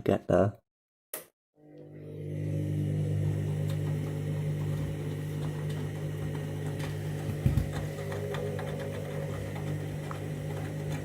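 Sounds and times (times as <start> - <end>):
washing machine motor humming: 1.6 - 11.0.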